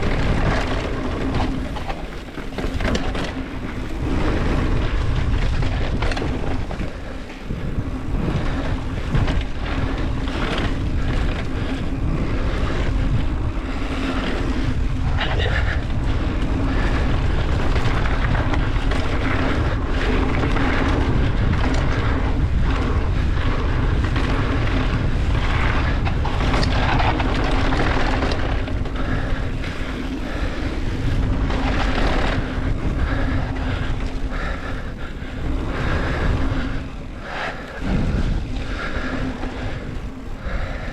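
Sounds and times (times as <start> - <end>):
bike knocks and rattles: 0.0 - 40.9
tyres rolling on dirt: 0.0 - 40.9
wind on microphone: 0.0 - 40.9.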